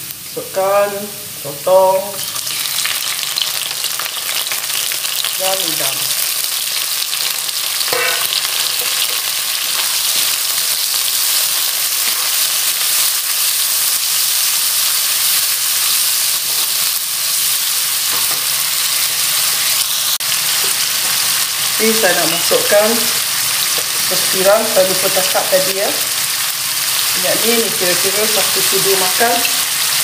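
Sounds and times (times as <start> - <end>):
seafood sizzling in hot oil: 1.1 - 30.0.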